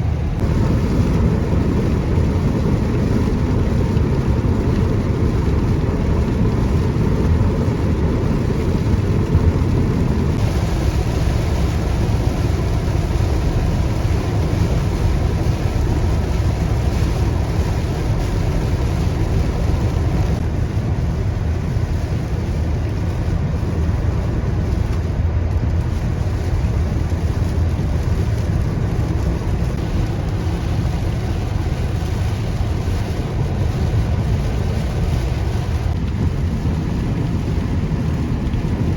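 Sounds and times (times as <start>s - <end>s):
car road and engine rumble: 0.0s - 38.9s
wind noise: 0.0s - 38.9s.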